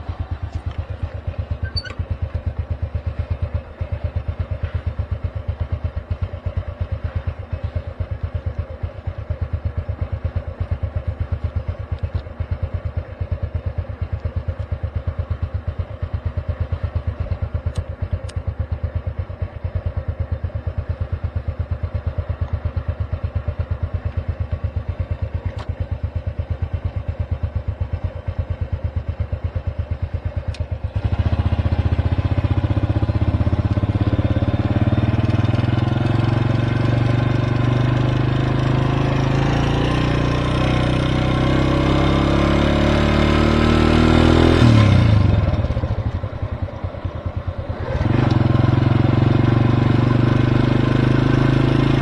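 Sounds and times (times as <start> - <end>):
motorcycle engine idling: 0.0 - 42.5, 44.6 - 52.0
motorcycle pulling away: 0.0 - 52.0.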